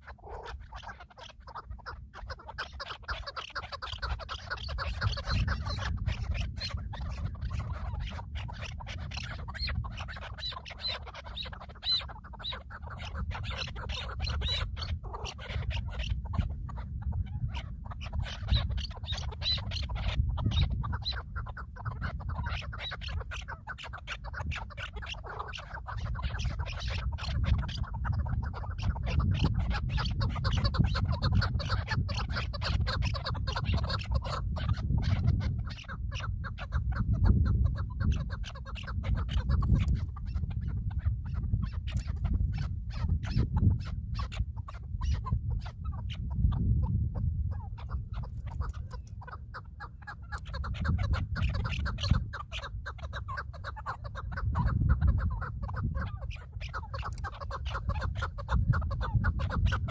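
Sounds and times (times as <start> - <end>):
birds calling: 0.0 - 59.9
low rumble on microphone: 4.0 - 59.9.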